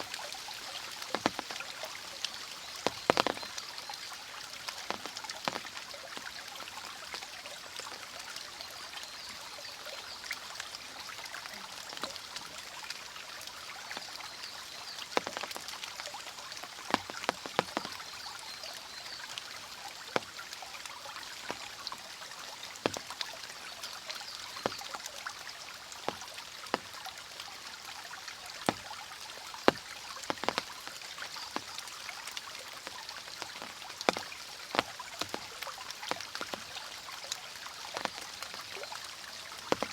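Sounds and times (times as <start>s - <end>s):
water drops splashing: 0.0s - 9.2s, 10.1s - 39.9s
rain: 0.0s - 39.9s.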